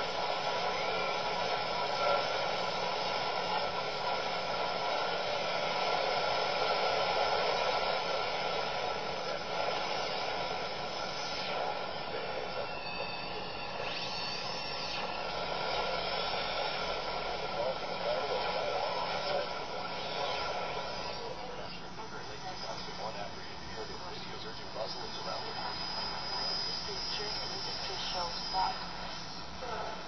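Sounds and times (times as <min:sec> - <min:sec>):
sliding radio whistles: 0:00.0 - 0:29.6
radio static hiss: 0:00.0 - 0:30.0.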